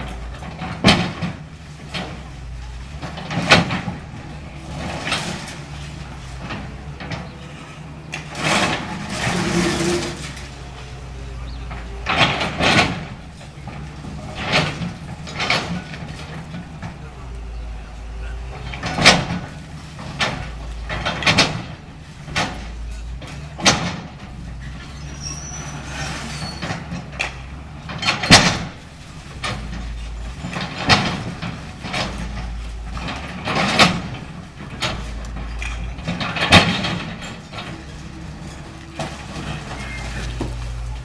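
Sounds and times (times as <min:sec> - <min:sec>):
diesel engine running: 0:00.0 - 0:41.0
falling debris: 0:00.0 - 0:41.0.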